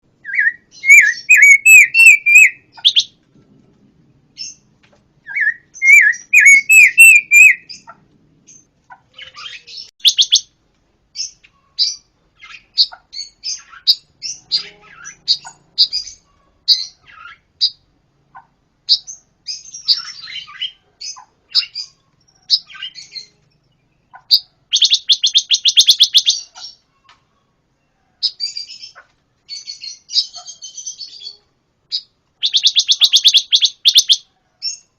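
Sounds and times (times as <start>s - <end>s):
songbird singing: 0.1s - 3.2s, 4.2s - 34.9s.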